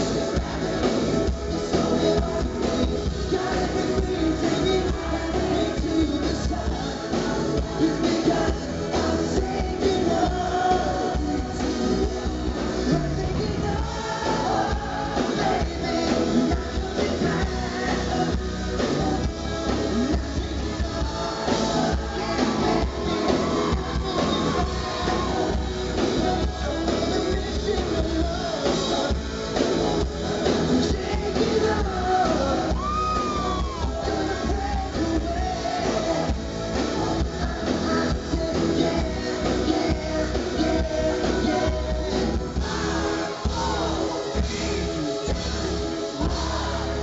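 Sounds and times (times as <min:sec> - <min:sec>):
man singing: 0:00.0 - 0:47.0
pop-rock band playing: 0:00.0 - 0:47.0.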